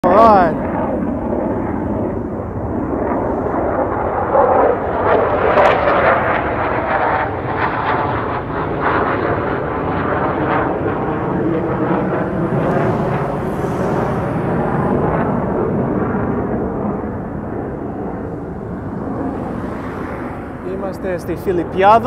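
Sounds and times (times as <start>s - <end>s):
fighter jets roaring overhead: 0.0s - 22.0s.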